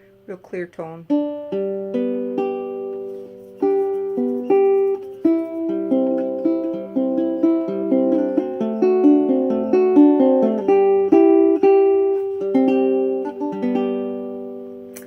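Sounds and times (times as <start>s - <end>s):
ukulele arpeggios: 1.1s - 15.0s.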